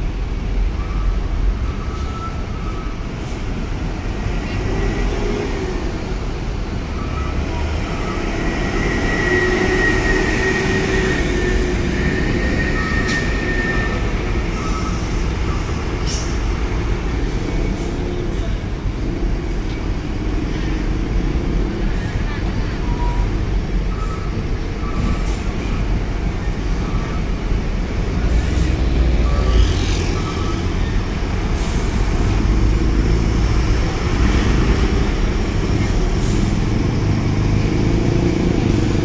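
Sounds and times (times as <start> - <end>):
diesel trucks passing: 0.0 - 39.0.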